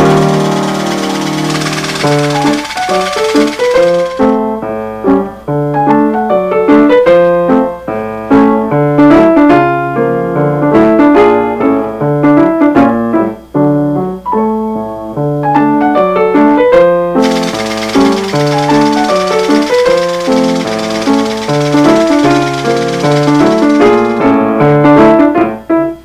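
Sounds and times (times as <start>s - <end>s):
lively piano tune: 0.0s - 26.0s.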